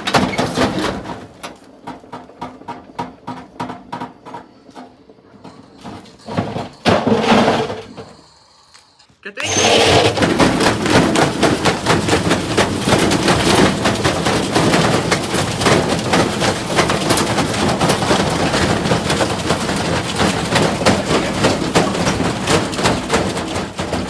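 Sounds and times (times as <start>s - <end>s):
bricks banging in washing machine: 0.0s - 8.2s, 9.4s - 24.0s.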